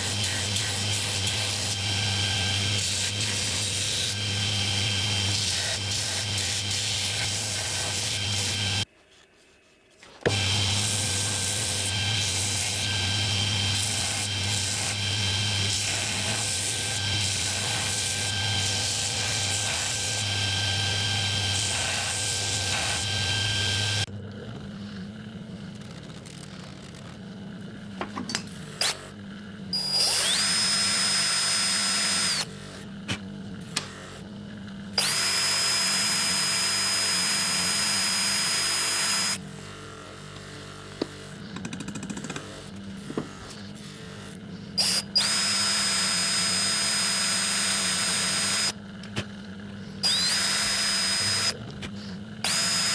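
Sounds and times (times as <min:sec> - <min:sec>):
power tool whining: 0:00.0 - 0:08.9, 0:10.2 - 0:24.1, 0:27.9 - 0:32.9, 0:34.9 - 0:52.9.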